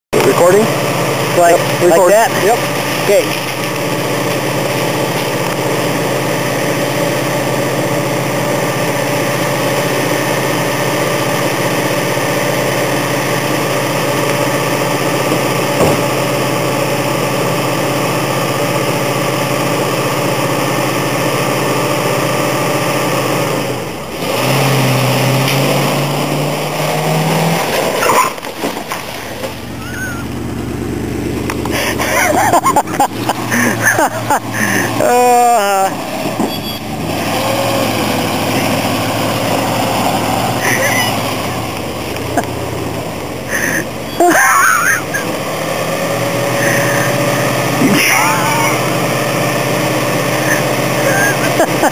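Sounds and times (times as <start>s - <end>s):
truck engine running and revving: 0.1s - 51.9s.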